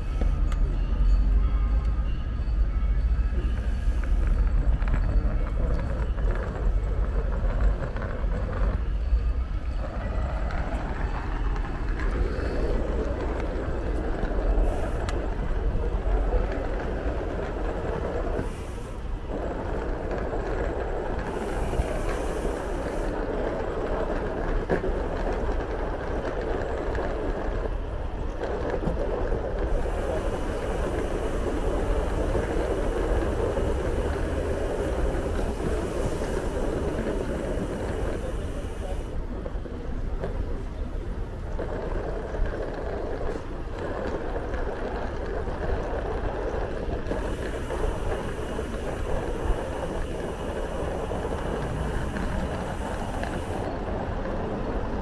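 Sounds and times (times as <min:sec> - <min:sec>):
bicycle ride rumble: 0:00.0 - 0:55.0
wind buffeting microphone: 0:03.4 - 0:55.0.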